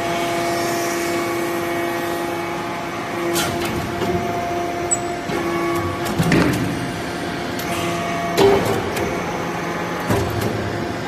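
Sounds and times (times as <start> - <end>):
briquetting press machine hum: 0.0 - 11.0.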